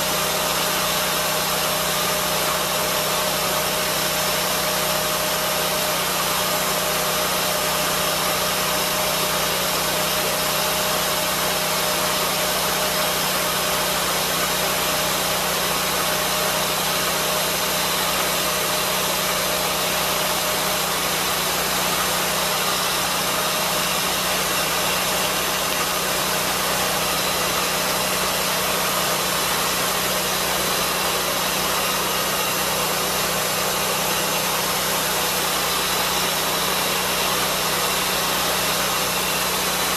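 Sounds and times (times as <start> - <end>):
sawmill engine running steadily: 0.0 - 39.9.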